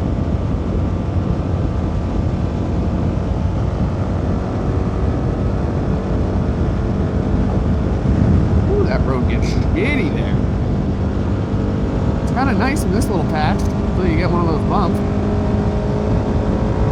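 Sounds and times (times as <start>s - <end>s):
road and wind noise: 0.0s - 16.9s.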